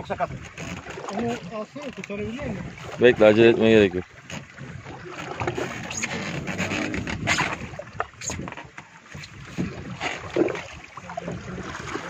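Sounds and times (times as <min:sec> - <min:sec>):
knocks and clicks on boat: 0:00.0 - 0:12.0
wind and water rushing: 0:00.0 - 0:12.0.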